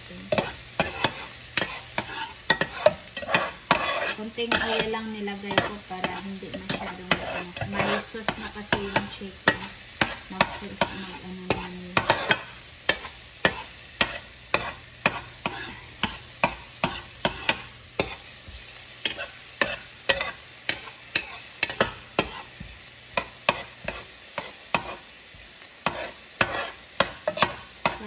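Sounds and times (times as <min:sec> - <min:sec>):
light sizzle: 0:00.0 - 0:28.0
metal spoon scraping a pan: 0:00.2 - 0:25.2, 0:25.8 - 0:28.0.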